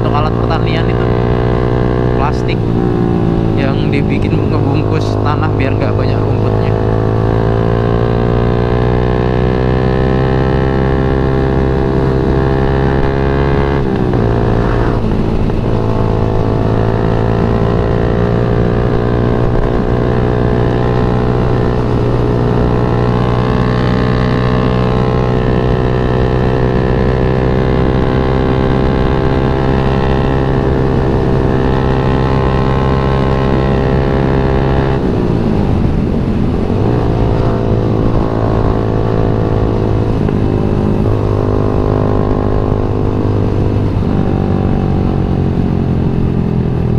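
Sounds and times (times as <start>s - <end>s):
motorcycle engine shifting gears: 0.0s - 46.9s.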